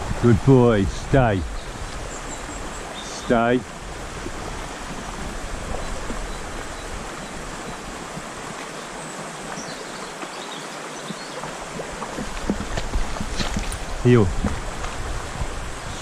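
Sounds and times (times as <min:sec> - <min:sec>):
stream running over stones: 0:00.0 - 0:16.0.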